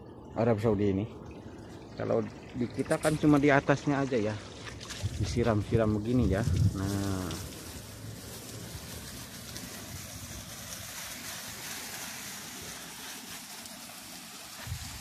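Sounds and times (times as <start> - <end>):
hose spraying water on leaves: 2.7 - 15.0.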